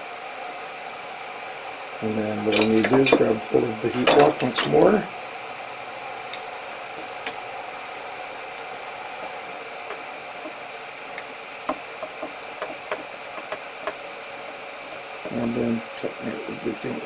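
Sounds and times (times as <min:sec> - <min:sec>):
faint high whine: 0:00.0 - 0:17.0
printer fans hissing: 0:00.0 - 0:17.0.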